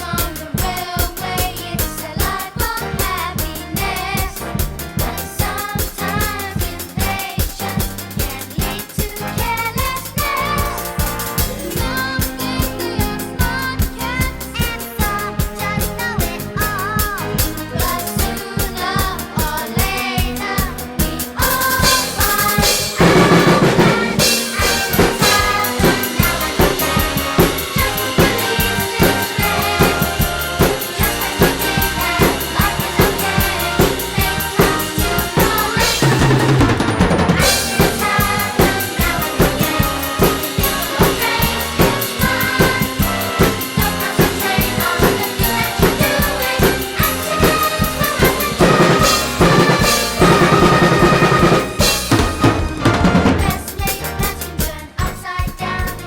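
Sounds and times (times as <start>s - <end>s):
drum kit playing a steady beat: 0.0s - 56.0s
recorded instrumental backing track: 0.0s - 56.0s.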